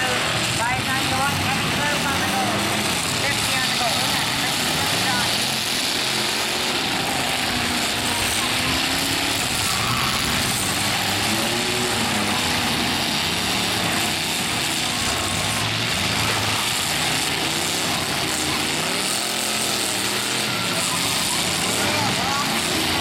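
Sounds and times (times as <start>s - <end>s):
truck engines revving: 0.0s - 23.0s.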